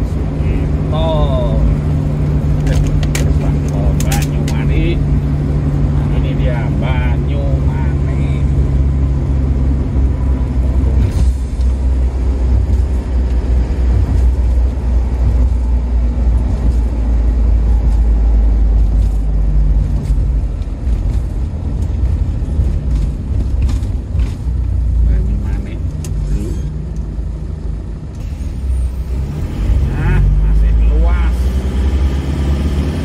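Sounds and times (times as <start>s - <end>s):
car engine and road noise drone: 0.0s - 33.0s.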